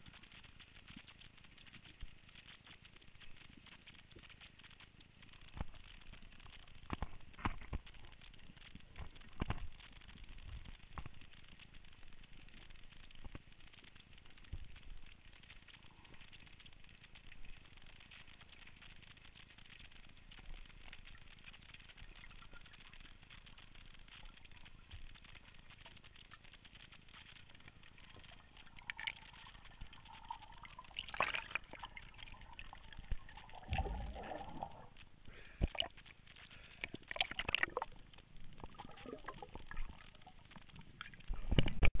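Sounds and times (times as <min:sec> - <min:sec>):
underwater water noise: 0:00.0 - 0:42.0
water gurgling: 0:00.0 - 0:42.0.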